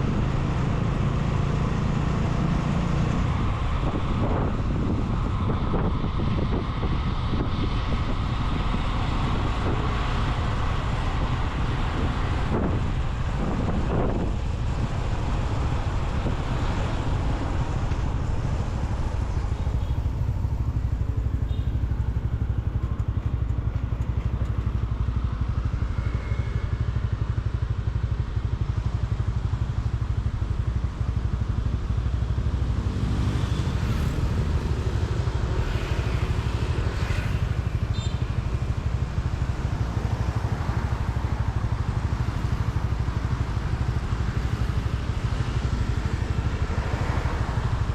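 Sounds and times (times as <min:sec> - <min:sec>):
motorcycle engine running: 0:00.0 - 0:47.9
road and traffic noise: 0:00.0 - 0:47.9.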